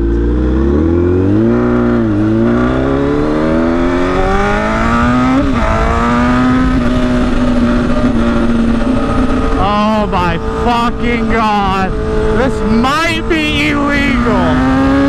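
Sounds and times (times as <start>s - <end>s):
loud motorcycle engine accelerating: 0.0s - 15.0s.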